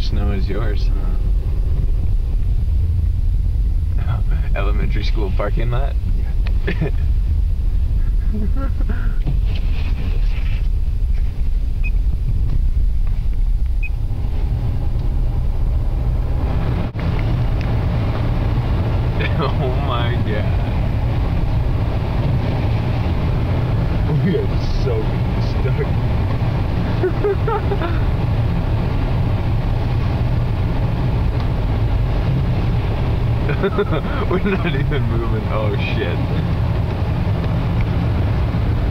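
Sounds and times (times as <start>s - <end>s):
car driving through snow: 0.0s - 38.9s.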